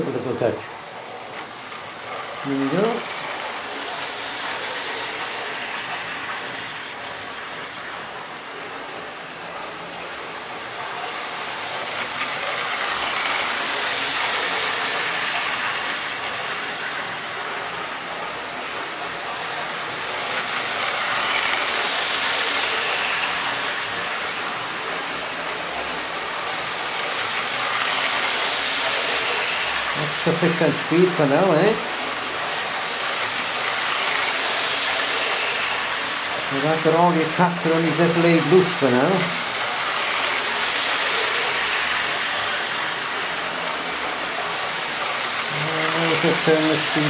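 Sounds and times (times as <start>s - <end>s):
model train wheels rattling on rails: 0.0s - 47.0s.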